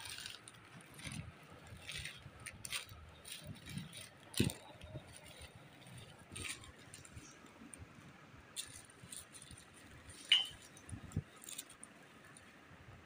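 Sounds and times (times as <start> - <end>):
plastic bags rustling: 0.0 - 7.4, 8.6 - 12.4.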